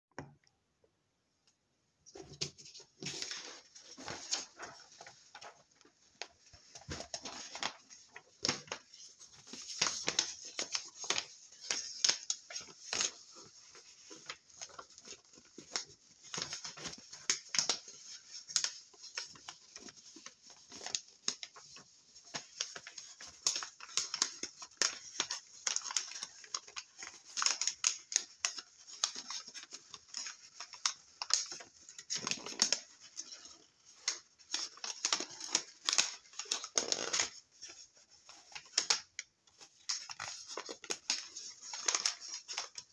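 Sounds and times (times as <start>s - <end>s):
paper crinkling while folded: 2.1s - 42.9s.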